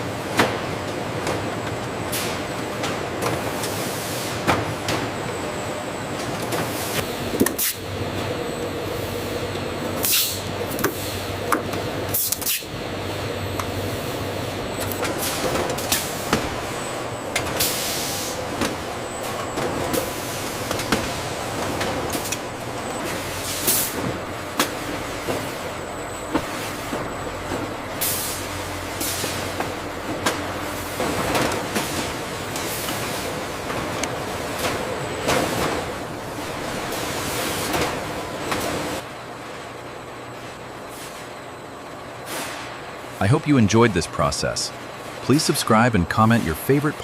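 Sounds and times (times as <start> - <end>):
factory machinery hum: 0.0 - 47.0.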